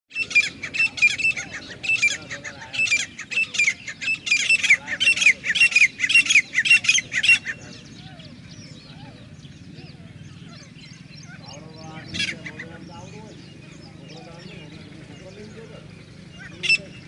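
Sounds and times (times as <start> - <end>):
francolin calling: 0.1 - 17.0.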